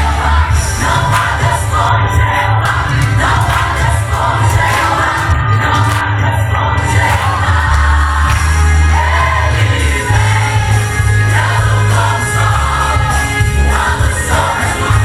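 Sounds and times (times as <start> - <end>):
band with heavy bass: 0.0 - 15.0
voices singing: 0.0 - 15.0.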